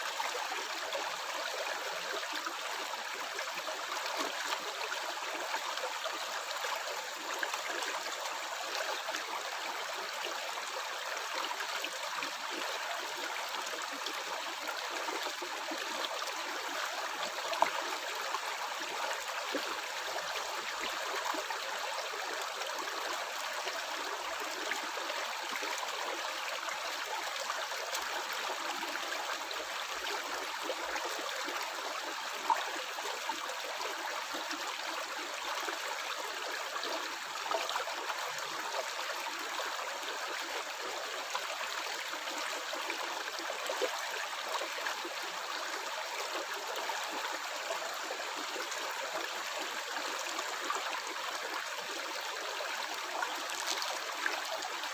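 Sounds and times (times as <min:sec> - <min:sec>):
stream water flowing over stones: 0:00.0 - 0:54.9.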